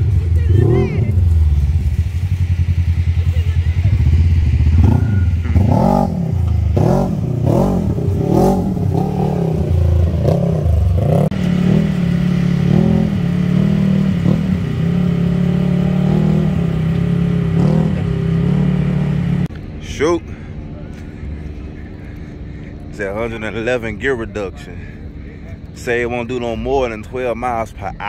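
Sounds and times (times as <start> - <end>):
engine revving: 0.0 - 25.1.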